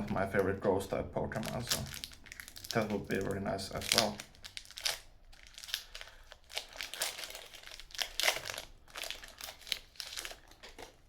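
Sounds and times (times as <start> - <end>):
foil wrapper crinkling: 0.0 - 11.0
foil wrapper tearing: 1.4 - 10.9.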